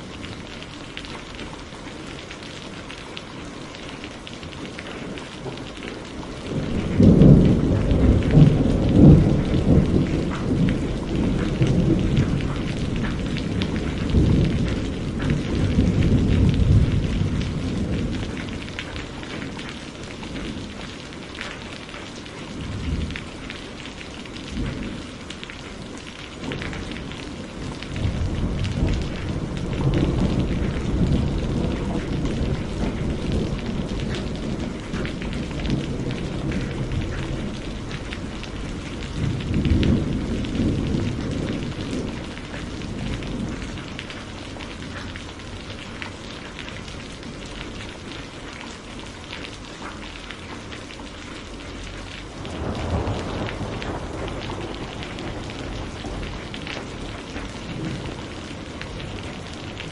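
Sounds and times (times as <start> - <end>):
steady rain falling: 0.0 - 59.9
thunder rumbling: 4.4 - 48.5, 51.6 - 59.9.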